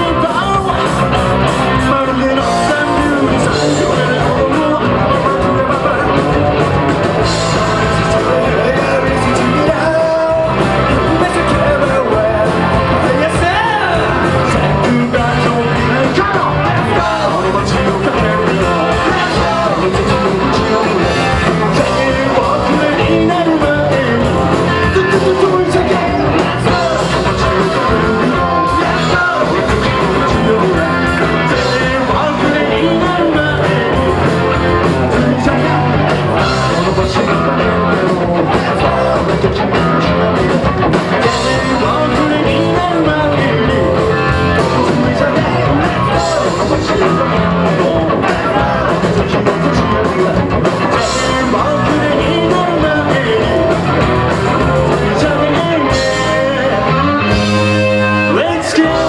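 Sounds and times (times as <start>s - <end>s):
electric guitar: 0.0s - 59.0s
lead vocal singing: 0.0s - 59.0s
rock band playing live: 0.0s - 59.0s.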